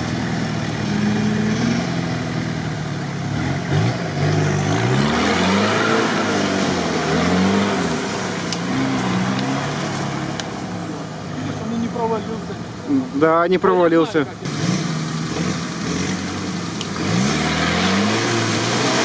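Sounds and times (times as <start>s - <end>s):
engine revving under load: 0.0s - 12.6s, 14.3s - 19.0s
tyres churning through mud: 0.0s - 19.0s.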